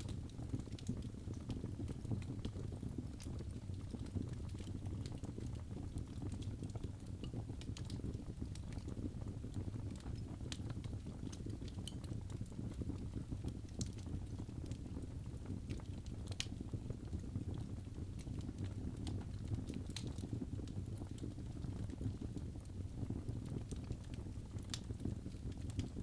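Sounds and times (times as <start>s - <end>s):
fire crackles and pops: 0.0s - 26.0s
fire rumbling in a fireplace: 0.0s - 26.0s.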